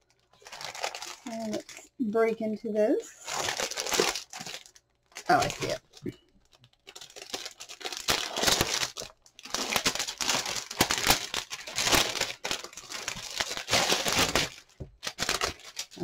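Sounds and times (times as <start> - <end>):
packaging tearing and crinkling: 0.3 - 1.8, 3.2 - 16.0.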